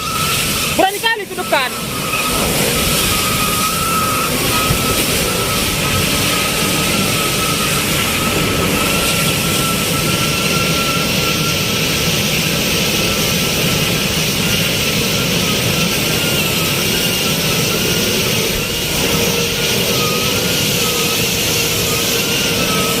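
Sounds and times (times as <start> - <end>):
high whistle: 0.0 - 23.0.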